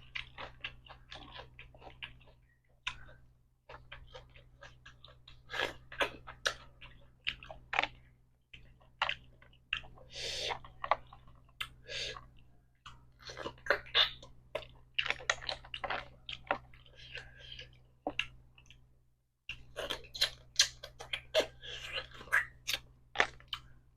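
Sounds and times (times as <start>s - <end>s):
person chewing and lip smacking: 0.0s - 18.9s, 19.5s - 23.8s.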